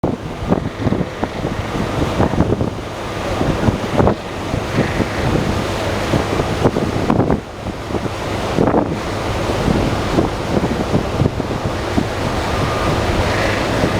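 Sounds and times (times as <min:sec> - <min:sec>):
helicopter rotor and turbine: 0:00.0 - 0:13.9
wind buffeting microphone: 0:00.0 - 0:13.9.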